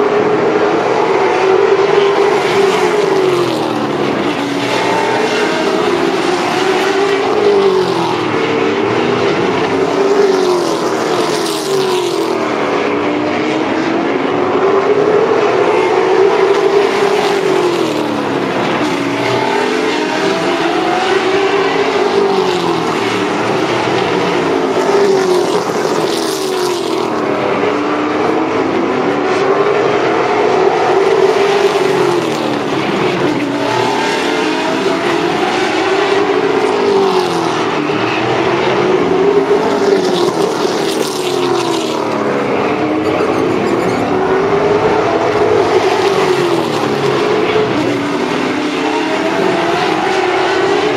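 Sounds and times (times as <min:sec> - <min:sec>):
race car engines: 0:00.0 - 0:50.9.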